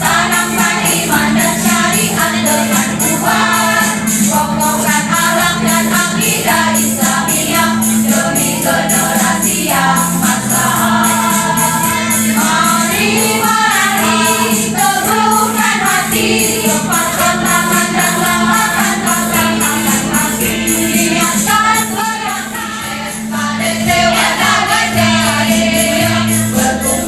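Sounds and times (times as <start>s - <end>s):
choir singing in parts: 0.0s - 27.0s
high percussive strikes: 0.0s - 27.0s.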